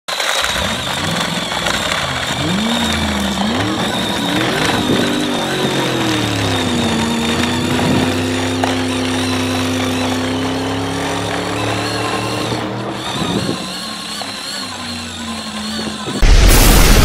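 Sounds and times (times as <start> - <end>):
ride-on toy quad motor whine: 0.1 - 16.2
low engine-like drone: 0.2 - 17.0.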